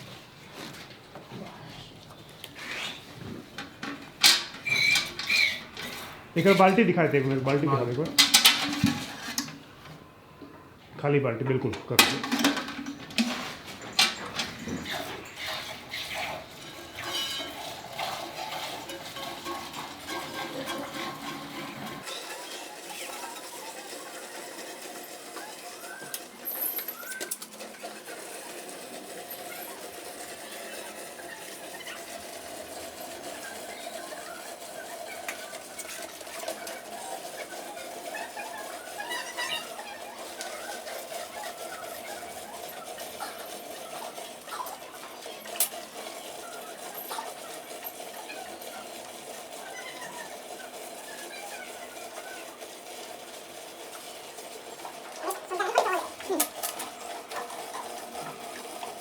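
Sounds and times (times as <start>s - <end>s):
milking machine humming: 0.0s - 59.0s.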